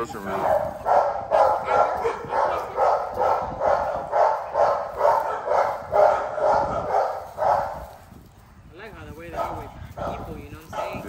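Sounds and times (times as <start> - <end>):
dog barking: 0.0 - 8.0, 9.2 - 11.0.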